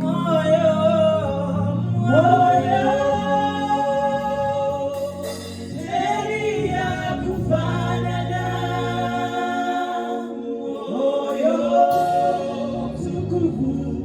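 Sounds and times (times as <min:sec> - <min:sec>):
gospel singing: 0:00.0 - 0:14.0.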